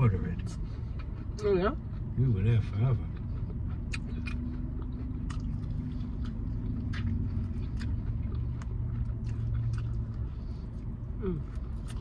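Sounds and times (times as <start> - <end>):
idling car hum: 0.0 - 12.0
chewing and lip-smacking: 0.2 - 12.0.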